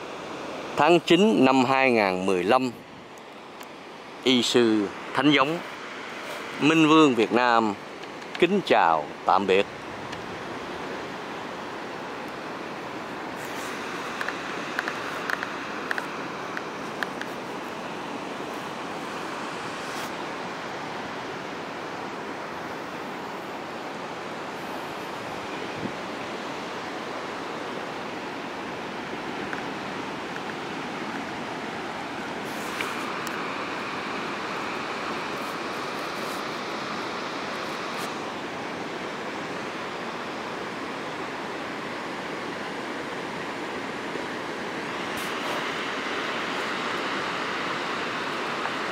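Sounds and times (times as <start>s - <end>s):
ocean surf rushing: 0.0s - 48.9s.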